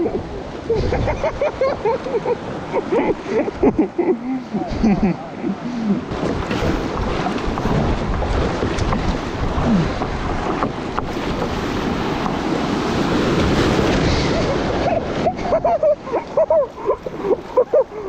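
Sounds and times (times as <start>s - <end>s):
wind buffeting microphone: 0.0s - 3.9s, 4.6s - 18.0s
rushing river water: 0.0s - 18.0s.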